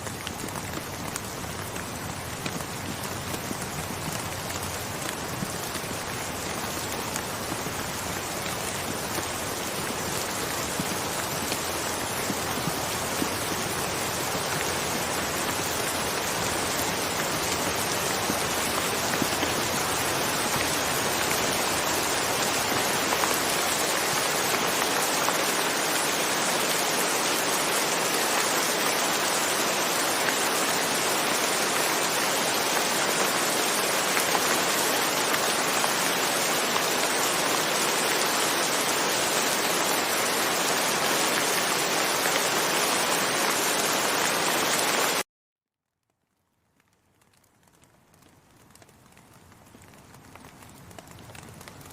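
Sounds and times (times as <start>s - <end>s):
steady rain falling: 0.0s - 45.2s, 46.0s - 51.9s.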